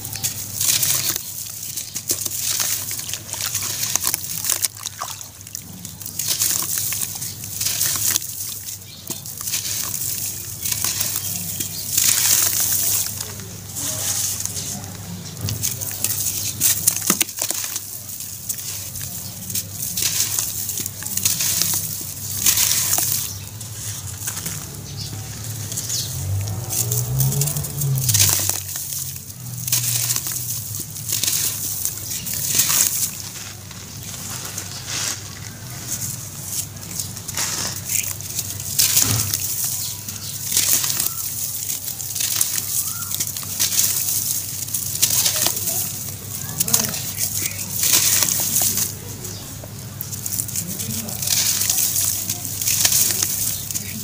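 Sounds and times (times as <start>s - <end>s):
wet ash crumbling in water: 0.0s - 54.0s.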